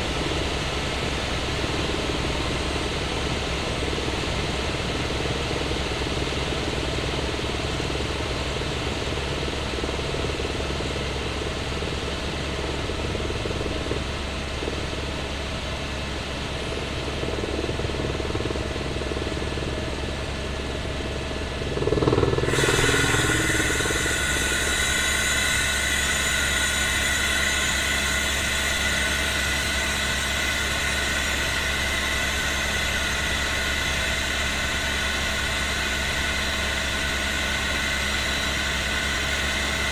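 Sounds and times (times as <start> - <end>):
helicopter rotor drone: 0.0 - 39.9
high whine: 0.0 - 39.9.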